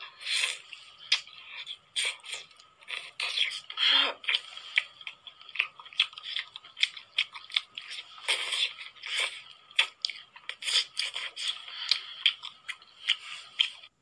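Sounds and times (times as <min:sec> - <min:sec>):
chewing and wet mouth clicks: 0:00.6 - 0:13.9.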